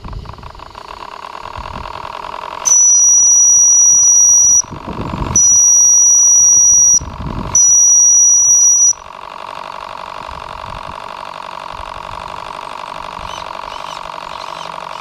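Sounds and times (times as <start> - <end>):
steam engine running: 0.0 - 15.0.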